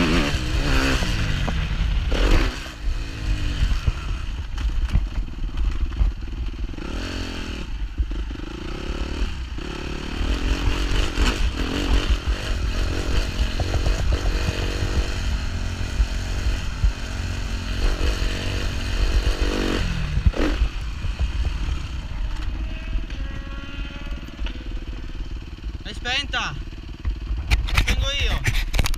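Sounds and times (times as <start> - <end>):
motocross bike engine revving: 0.0 - 28.3.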